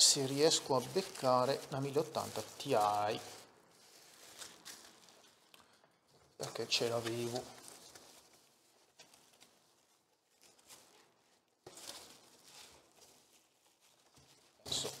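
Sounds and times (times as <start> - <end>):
rustling and handling noises: 0.0 - 15.0.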